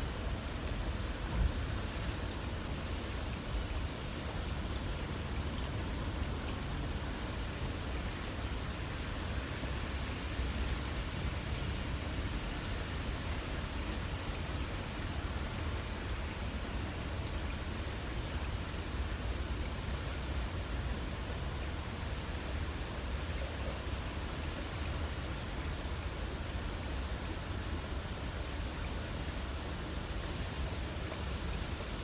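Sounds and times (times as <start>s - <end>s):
light rain falling: 0.0s - 32.0s.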